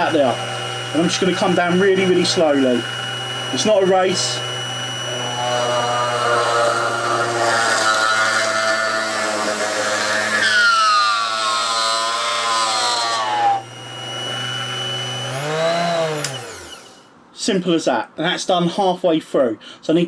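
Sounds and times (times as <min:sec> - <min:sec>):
drill bit whine: 0:00.0 - 0:17.1
drill press motor hum: 0:00.0 - 0:17.2.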